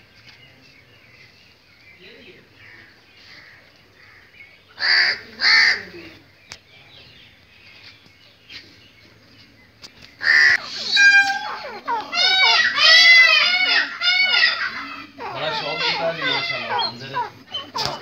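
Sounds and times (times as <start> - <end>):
loud harsh bird calls: 1.0 - 8.8, 9.7 - 18.0.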